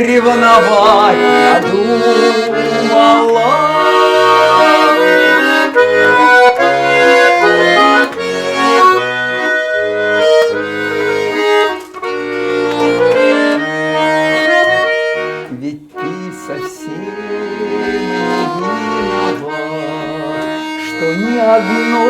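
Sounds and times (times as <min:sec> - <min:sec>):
button accordion melody: 0:00.0 - 0:22.0.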